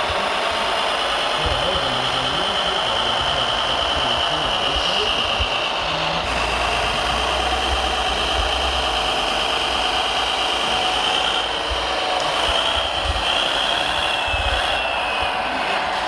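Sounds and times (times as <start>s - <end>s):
electric motors whining: 0.0s - 16.0s
low rumbling: 0.0s - 16.0s.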